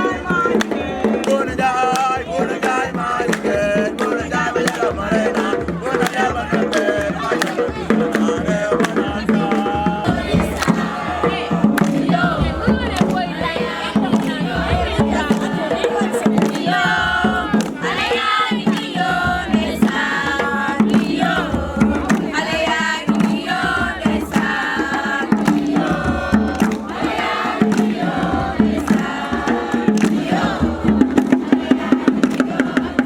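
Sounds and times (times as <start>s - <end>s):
group of voices chanting: 0.0s - 33.0s
sharp percussive beats: 0.0s - 33.0s.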